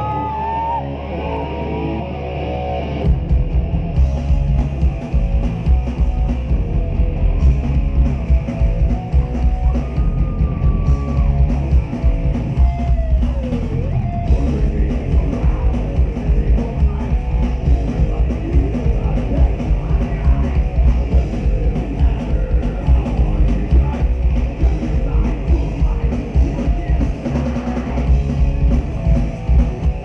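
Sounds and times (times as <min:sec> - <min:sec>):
bass guitar: 0:00.0 - 0:30.0
distorted electric guitars: 0:00.0 - 0:30.0
drum kit: 0:03.0 - 0:30.0.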